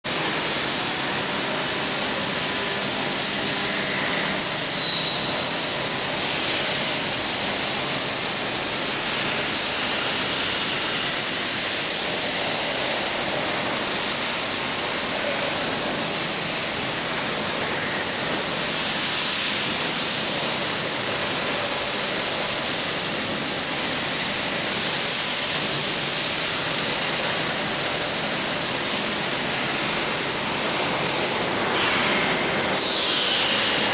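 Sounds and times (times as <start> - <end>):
machinery hiss: 0.1 - 33.9.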